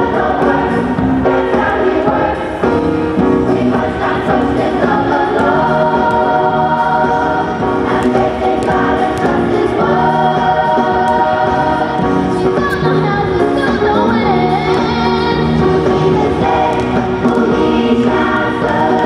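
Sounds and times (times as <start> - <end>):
choir singing sustained chords: 0.0 - 19.0.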